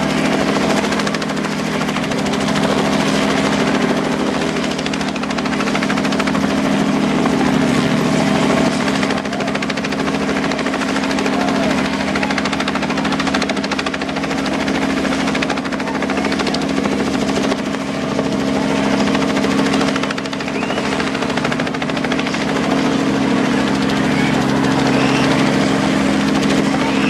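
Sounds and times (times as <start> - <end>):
helicopter hovering: 0.0 - 27.0.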